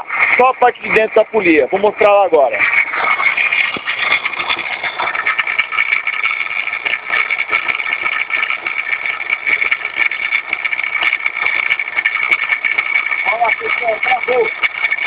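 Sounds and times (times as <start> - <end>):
diesel engine running: 0.0 - 15.0
high-pitched whine: 0.0 - 15.0.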